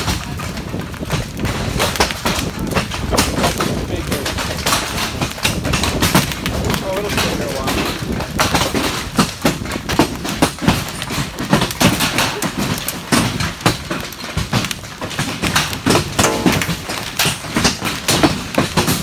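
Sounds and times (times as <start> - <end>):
hailstones pelting: 0.0 - 19.0.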